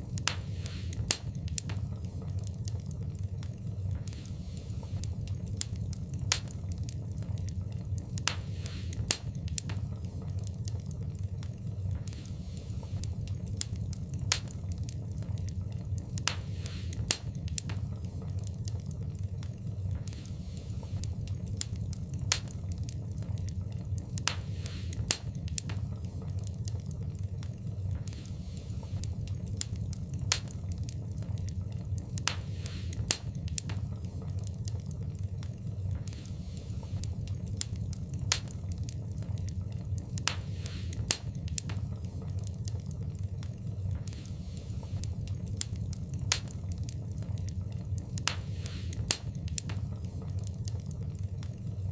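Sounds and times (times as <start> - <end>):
fire crackling and popping: 0.0 - 51.9
fire hissing: 0.0 - 51.9
low rumble of flames: 0.0 - 51.9.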